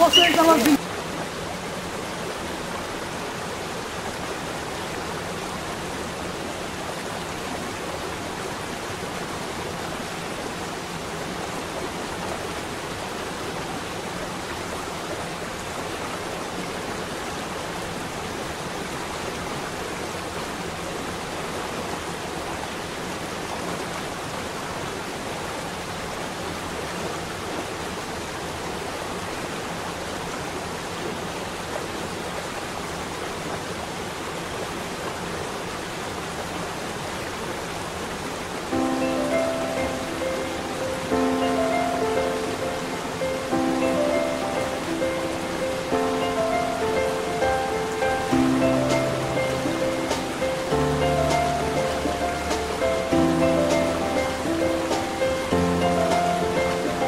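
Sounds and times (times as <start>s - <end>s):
waterfall splashing on rocks: 0.0s - 57.0s.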